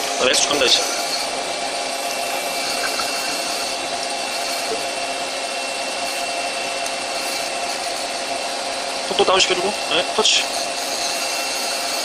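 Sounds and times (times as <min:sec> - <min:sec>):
lathe machine whir: 0:00.0 - 0:12.0.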